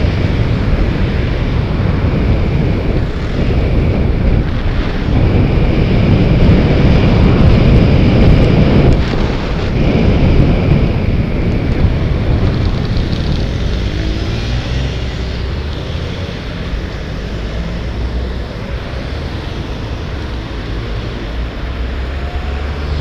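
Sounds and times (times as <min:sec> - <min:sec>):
road traffic: 0:00.0 - 0:23.0
wind rushing over microphone: 0:00.0 - 0:23.0.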